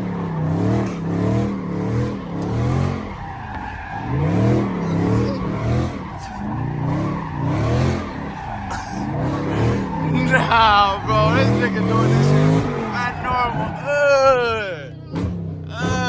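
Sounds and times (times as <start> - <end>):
car engine revving: 0.0 - 16.0
tyres squealing: 0.0 - 16.0.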